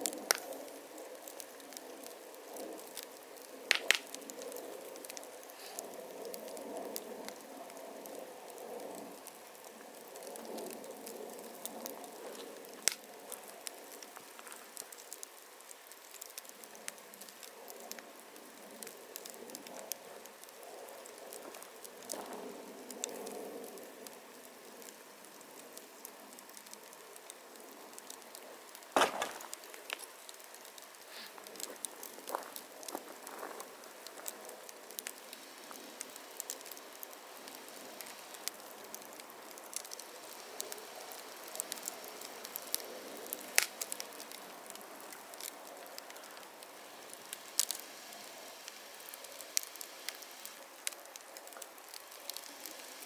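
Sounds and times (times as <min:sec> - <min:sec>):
soft steady hiss: 0:00.0 - 0:53.0
wood fire crackling: 0:00.0 - 0:53.0.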